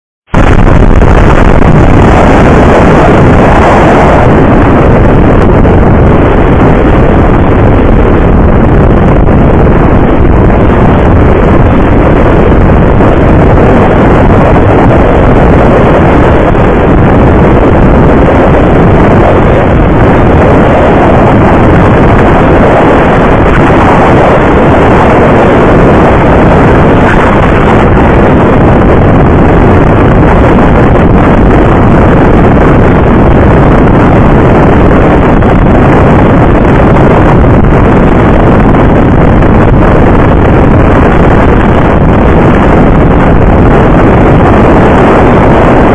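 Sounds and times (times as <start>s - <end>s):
wind buffeting microphone: 0.3s - 45.9s.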